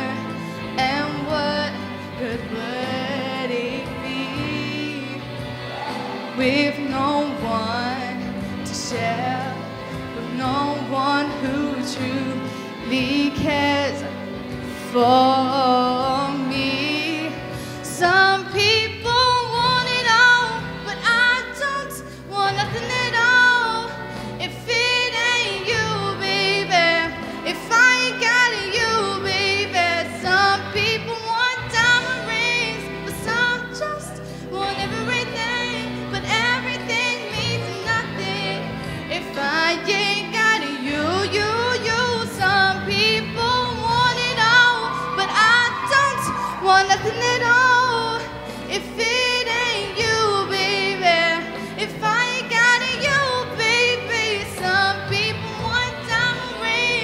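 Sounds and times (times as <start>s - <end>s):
instrumental accompaniment: 0.0s - 57.0s
woman singing into a microphone: 0.0s - 57.0s.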